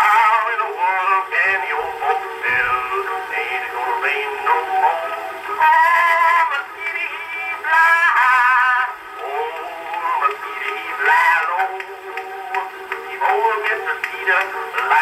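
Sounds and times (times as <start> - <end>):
old phonograph music: 0.0 - 15.0.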